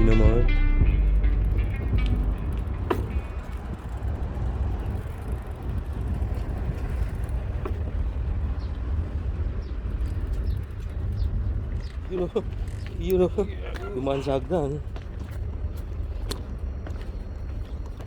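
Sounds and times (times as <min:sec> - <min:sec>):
bike tyres on ground: 0:00.0 - 0:18.0
wind on microphone: 0:00.0 - 0:18.0.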